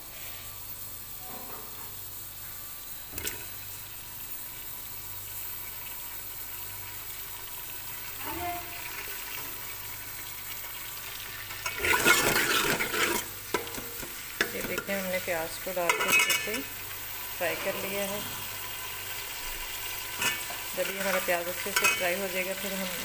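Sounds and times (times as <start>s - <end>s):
onions sizzling in oil: 0.0s - 23.0s.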